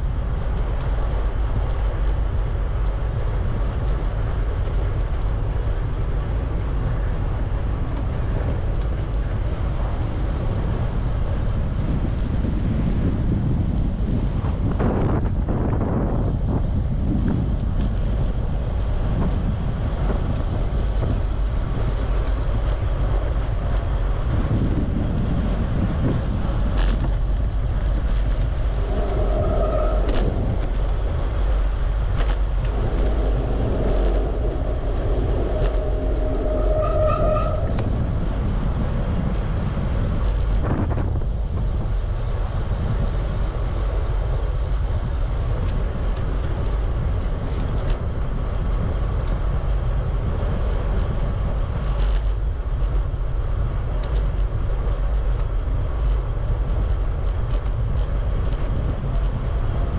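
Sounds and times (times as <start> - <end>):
bicycle rolling noise: 0.0 - 59.9
wind on microphone: 0.0 - 59.9.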